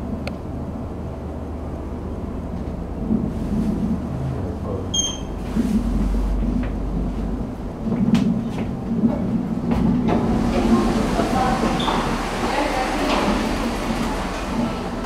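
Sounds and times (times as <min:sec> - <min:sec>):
lift low rumble: 0:00.0 - 0:15.0.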